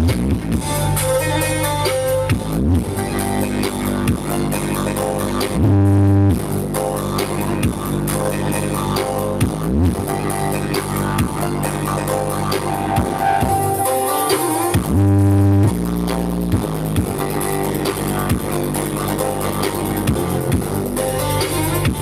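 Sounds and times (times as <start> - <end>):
electronic dance music: 0.0 - 5.7, 6.3 - 22.0.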